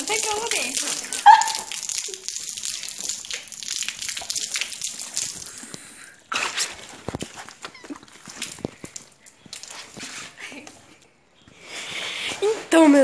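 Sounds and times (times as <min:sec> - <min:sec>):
water splashing: 0:00.0 - 0:10.6.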